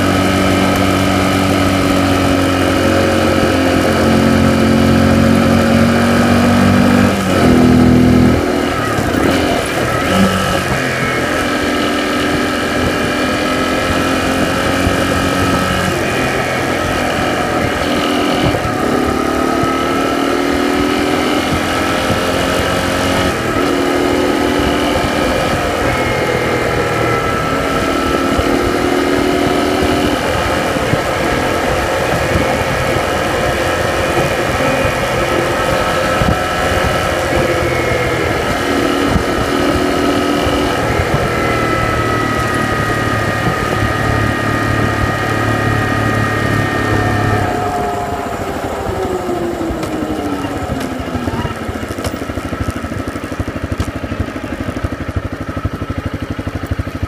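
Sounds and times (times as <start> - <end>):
small vehicle motor whining: 0.0 - 57.0.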